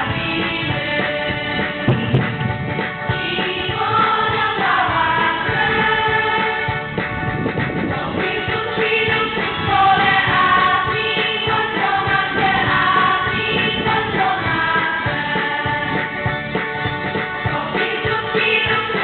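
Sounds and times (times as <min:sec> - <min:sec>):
female choir singing: 0:00.0 - 0:02.1, 0:03.1 - 0:06.8, 0:07.8 - 0:16.2, 0:17.5 - 0:19.0.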